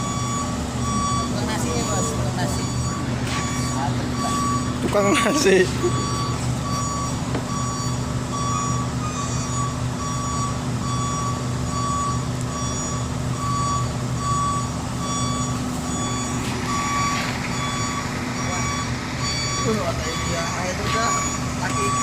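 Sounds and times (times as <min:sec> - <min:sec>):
diesel engine humming: 0:00.0 - 0:22.0
machine back-up alarm beeping: 0:00.0 - 0:22.0.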